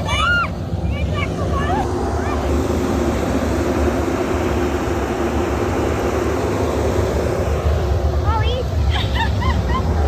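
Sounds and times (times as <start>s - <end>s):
farm machinery engine drone: 0.0s - 10.0s.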